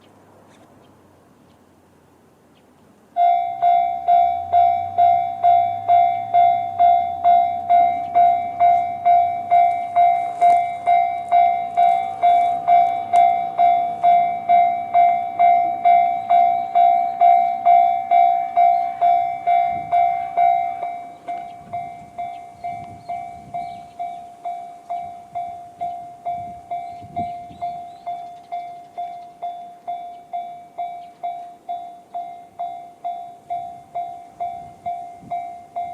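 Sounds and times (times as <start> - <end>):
level-crossing electronic bell: 3.2 - 35.9.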